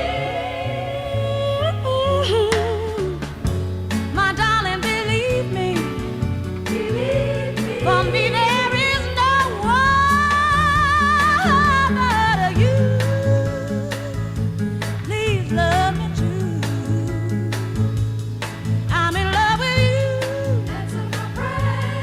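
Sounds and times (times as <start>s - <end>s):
soul vocal singing: 0.0s - 3.5s, 4.1s - 14.3s, 15.1s - 17.9s, 18.9s - 22.0s
steady bass line: 0.0s - 22.0s.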